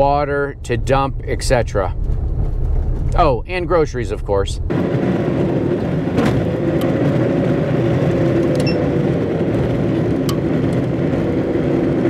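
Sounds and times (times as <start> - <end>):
vehicle engine: 0.0 - 12.0.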